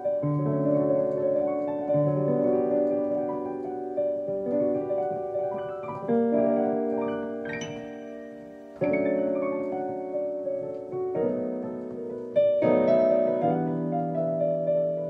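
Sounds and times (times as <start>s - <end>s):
digital piano chords: 0.0s - 15.0s.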